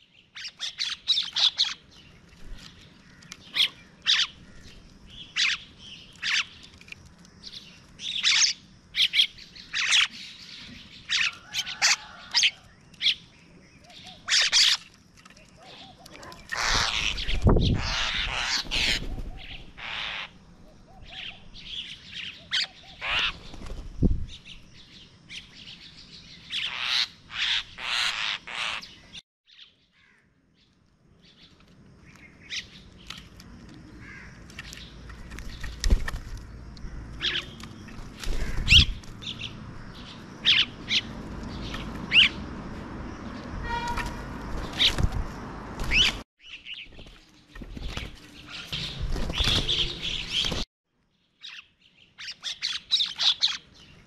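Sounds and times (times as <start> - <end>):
birds chirping and squawking: 0.0 - 30.2, 31.4 - 50.7, 51.4 - 54.0.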